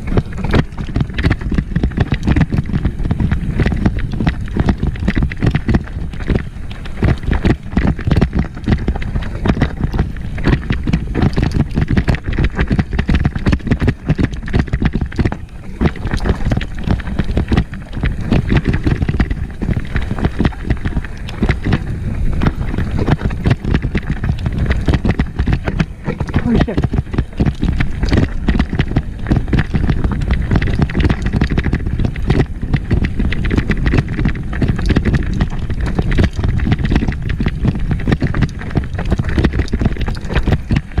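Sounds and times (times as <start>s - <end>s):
mountain bike rattling over rocks: 0.0s - 41.0s
wind on microphone: 0.0s - 41.0s.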